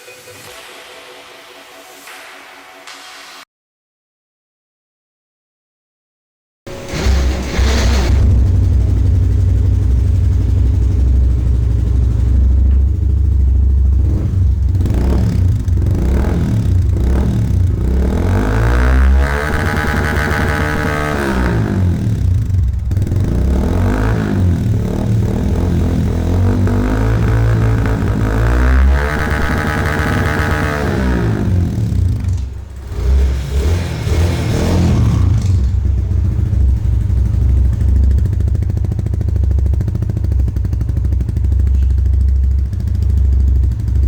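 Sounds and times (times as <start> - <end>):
motorcycle engine revving: 6.7 - 44.0.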